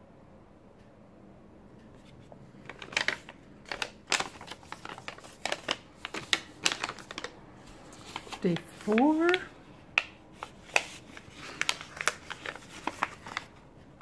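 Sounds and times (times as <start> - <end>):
paper rustling and crackling: 2.0 - 13.7.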